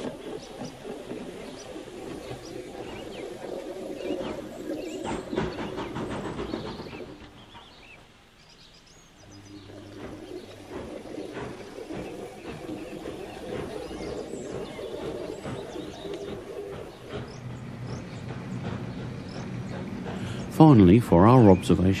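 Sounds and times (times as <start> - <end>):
birds chirping: 0.0 - 22.0
low background rumble: 0.0 - 22.0.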